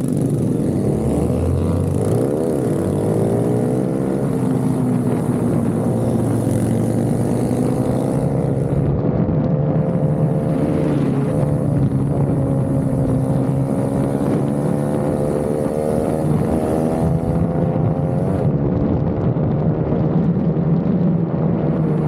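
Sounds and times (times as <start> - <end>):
minibike engine revving: 0.0 - 18.6.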